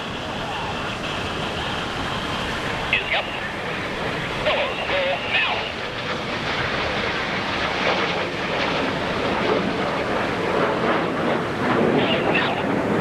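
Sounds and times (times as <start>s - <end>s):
jet passing overhead: 0.0s - 13.0s.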